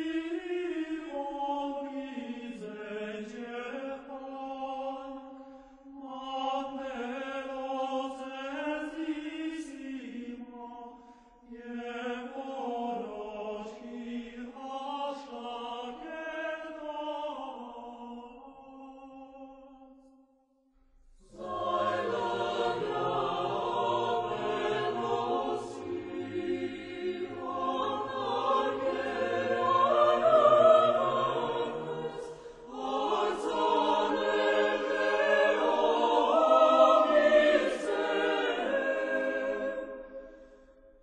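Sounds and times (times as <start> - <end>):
choir singing sustained chords: 0.0 - 20.1, 21.2 - 41.0.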